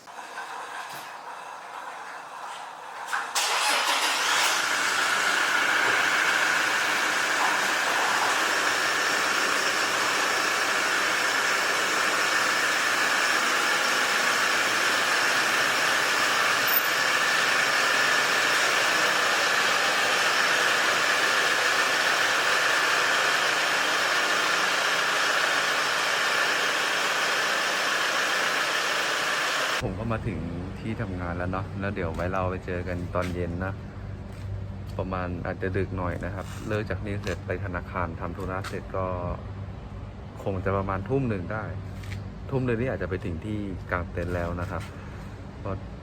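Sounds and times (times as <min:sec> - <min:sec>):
engine running: 0:03.3 - 0:40.4.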